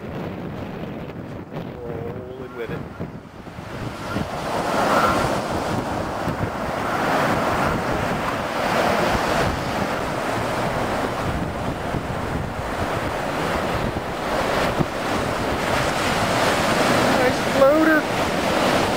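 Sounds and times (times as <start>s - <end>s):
breaking surf: 0.0s - 18.9s
wind buffeting microphone: 0.0s - 18.9s
rushing water: 2.4s - 18.9s.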